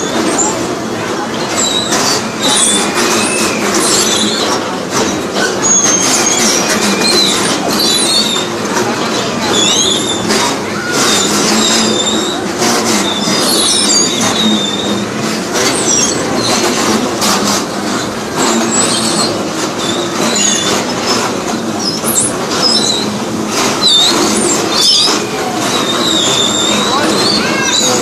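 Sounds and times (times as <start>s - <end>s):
bumper cars knocking: 0.0s - 28.0s
bumper cars running: 0.0s - 28.0s
high-pitched squeals: 0.0s - 28.0s.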